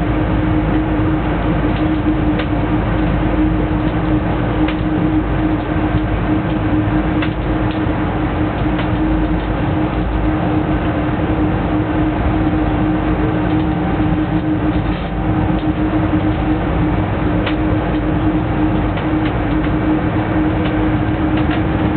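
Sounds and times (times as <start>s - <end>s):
constant hum: 0.0s - 21.9s
train wheels rumbling on rail: 0.0s - 21.9s.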